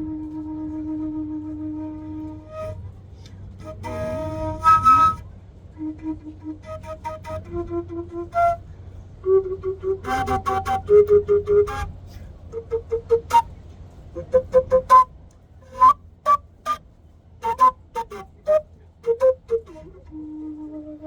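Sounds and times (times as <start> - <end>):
cane flute playing a tune: 0.0 - 21.0.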